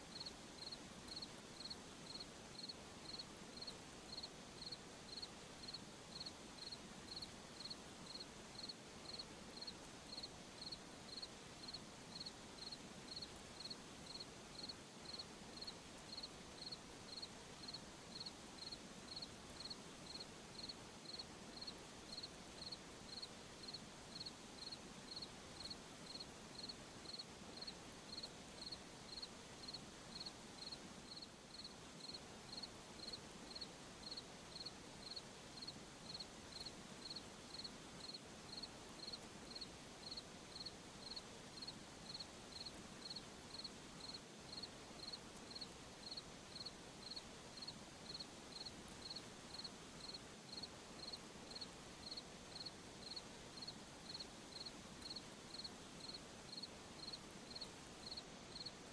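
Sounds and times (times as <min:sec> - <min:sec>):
faint high hiss: 0:00.0 - 0:58.9
cricket chirping: 0:00.1 - 0:58.7.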